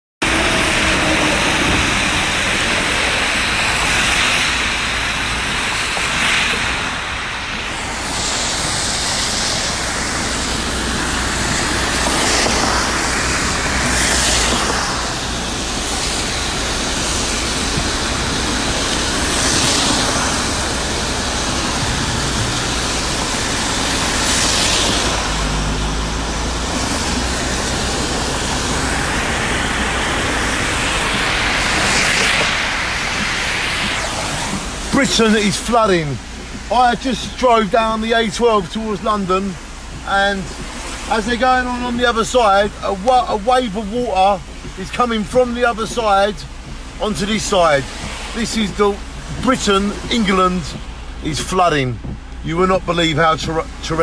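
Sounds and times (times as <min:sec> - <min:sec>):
heavy rain: 0:00.2 - 0:54.0
hissing spray of passing vehicles: 0:00.2 - 0:54.0
tyre and road noise: 0:00.2 - 0:54.0.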